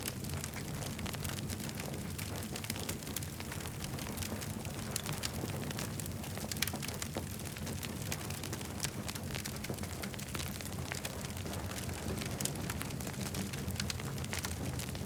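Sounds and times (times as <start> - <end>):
low rumble of flames: 0.0 - 15.0
burning wood popping and snapping: 2.0 - 15.0.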